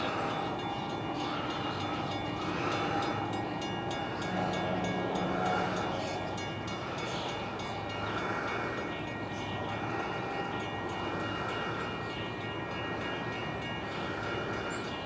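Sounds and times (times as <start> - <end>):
diesel locomotives and train: 0.0 - 15.0.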